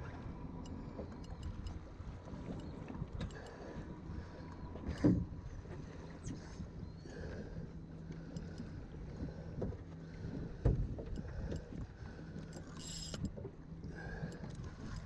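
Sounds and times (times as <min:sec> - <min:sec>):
boat engine idling: 0:00.0 - 0:15.0
water sloshing against hull: 0:00.0 - 0:15.0.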